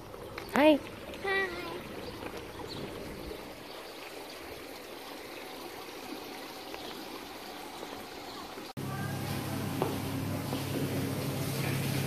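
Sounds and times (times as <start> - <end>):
water trickling and rushing: 0.0 - 12.0.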